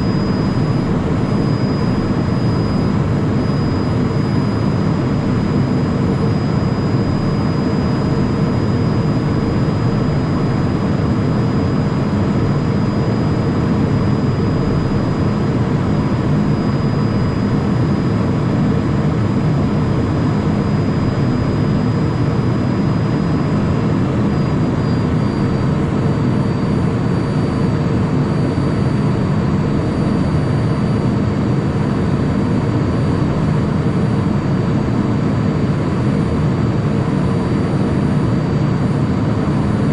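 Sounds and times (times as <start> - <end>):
faint high whine: 0.0 - 39.9
jet cockpit airflow and engine noise: 0.0 - 39.9.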